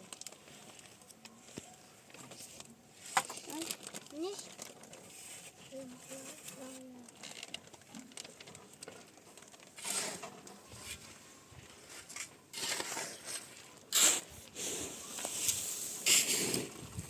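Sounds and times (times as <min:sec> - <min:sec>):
rustling and scraping: 0:00.0 - 0:17.0.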